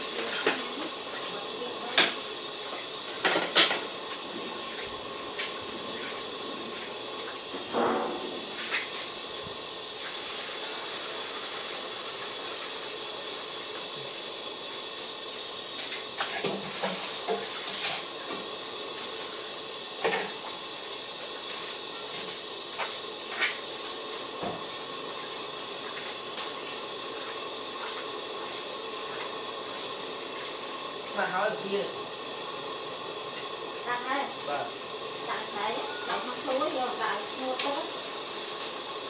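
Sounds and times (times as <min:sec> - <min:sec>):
broth simmering hiss: 0:00.0 - 0:39.0.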